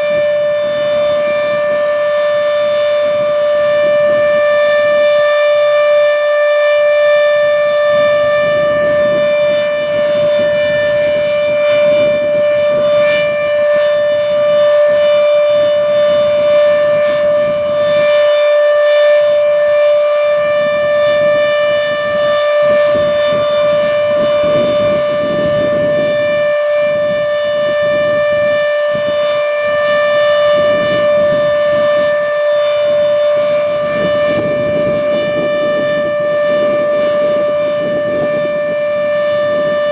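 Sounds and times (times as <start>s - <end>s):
mechanical warning siren: 0.0s - 39.9s.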